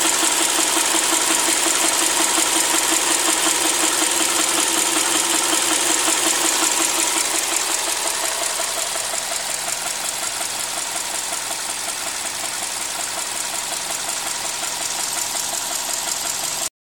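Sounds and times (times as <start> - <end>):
car engine running: 0.0 - 16.7.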